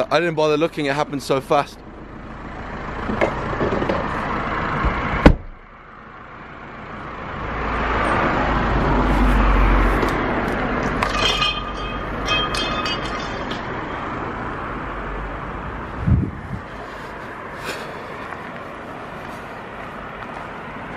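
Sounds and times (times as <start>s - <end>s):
vehicle passing rumble: 0.0s - 20.9s.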